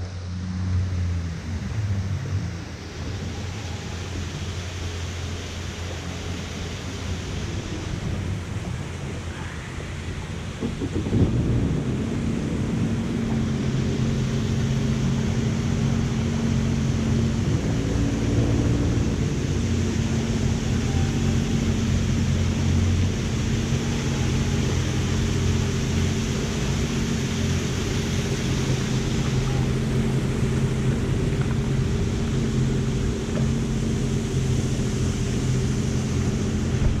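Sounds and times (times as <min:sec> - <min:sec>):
water splashing around hull: 0:00.0 - 0:37.0
watercraft engine idling: 0:00.0 - 0:37.0.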